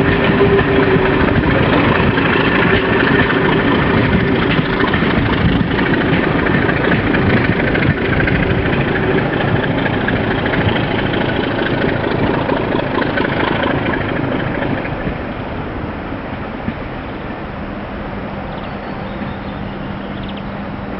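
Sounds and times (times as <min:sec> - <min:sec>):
diesel locomotive engine: 0:00.0 - 0:20.9.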